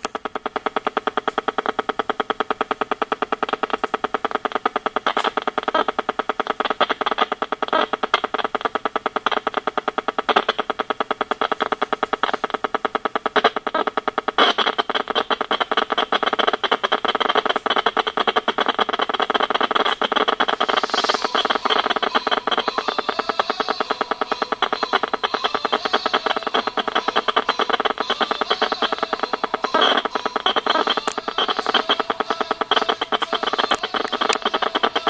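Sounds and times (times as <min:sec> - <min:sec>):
rapid buzzing clicks from meter: 0:00.0 - 0:35.0.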